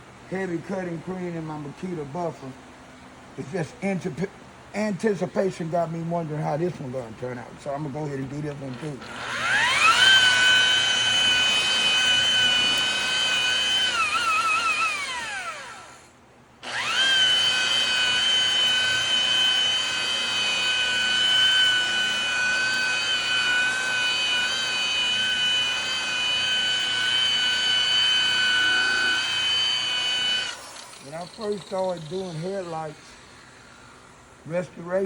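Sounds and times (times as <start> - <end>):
rotary buffer motor whine: 6.2 - 34.8.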